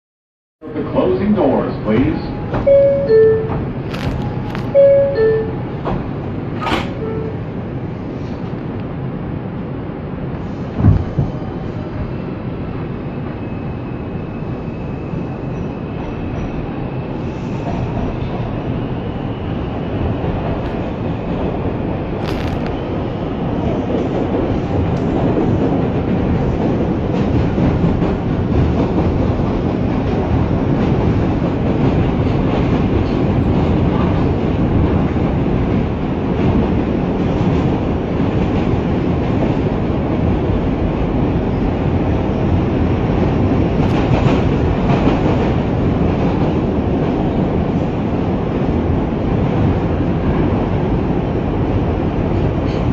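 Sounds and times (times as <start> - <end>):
subway train wheels rumbling: 0.6 - 52.9.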